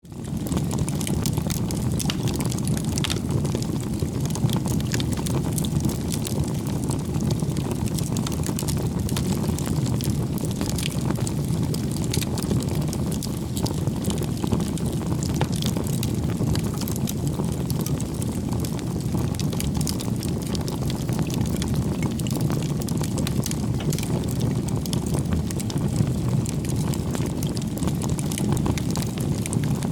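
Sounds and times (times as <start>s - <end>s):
burning wood crackling and popping: 0.1s - 29.9s
campfire flames rushing: 0.1s - 29.9s.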